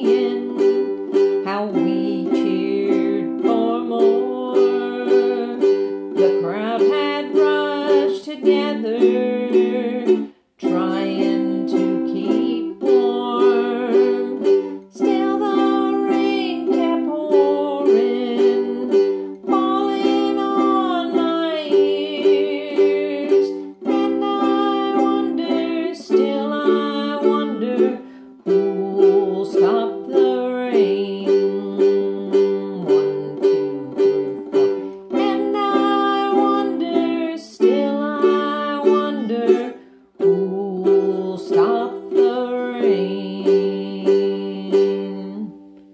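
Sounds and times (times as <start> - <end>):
person singing: 0.0 - 45.9
ukulele strumming chords: 0.0 - 45.9.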